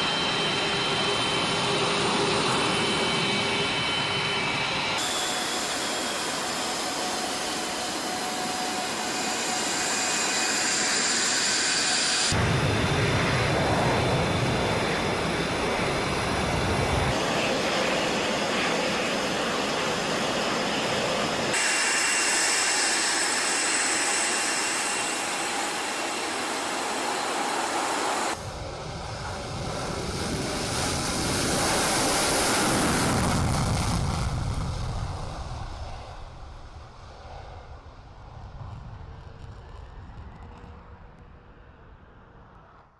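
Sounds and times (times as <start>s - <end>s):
jet engines roaring: 0.0s - 42.9s.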